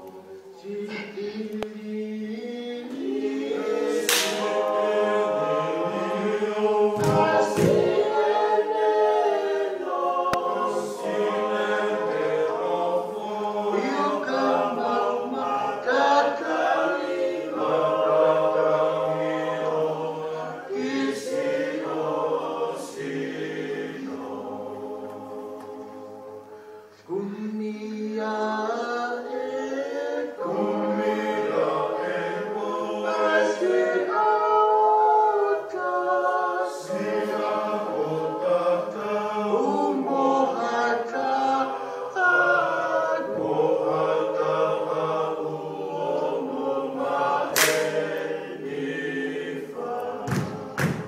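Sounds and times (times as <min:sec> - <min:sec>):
vocal group singing unaccompanied: 0:00.0 - 0:51.0.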